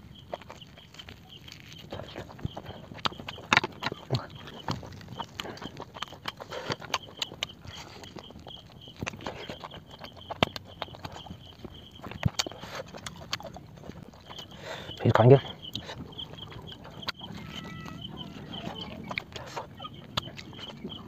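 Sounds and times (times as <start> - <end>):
lips smacking and chewing: 0.0 - 21.0.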